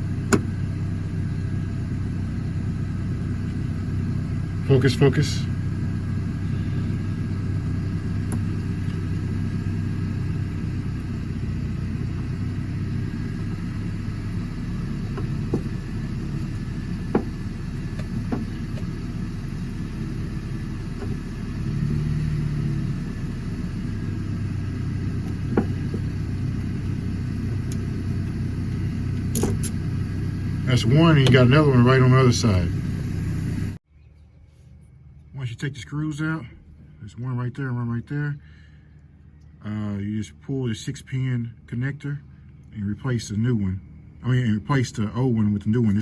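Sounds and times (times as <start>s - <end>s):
low mechanical rumble and hum: 0.0s - 46.0s.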